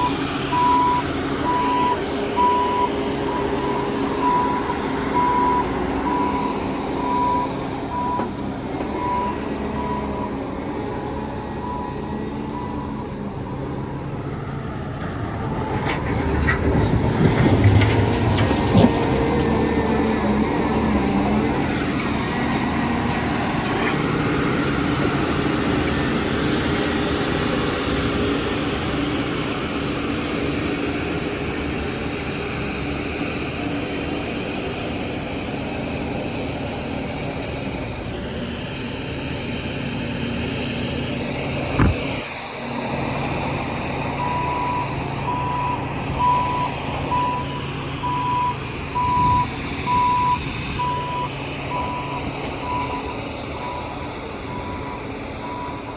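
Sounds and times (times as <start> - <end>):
diesel engine of earthmoving machine: 0.0 - 55.9.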